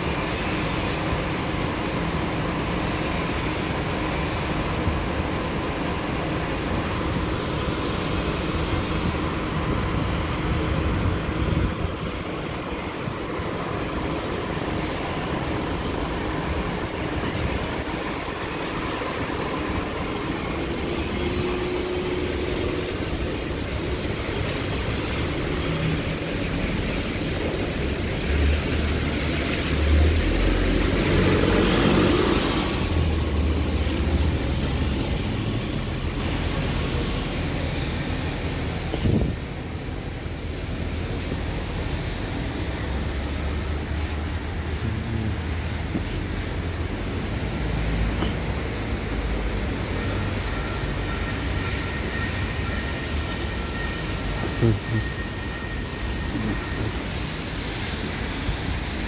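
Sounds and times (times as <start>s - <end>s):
bus engine moving off: 0.0s - 59.0s
street traffic noise: 0.0s - 59.0s.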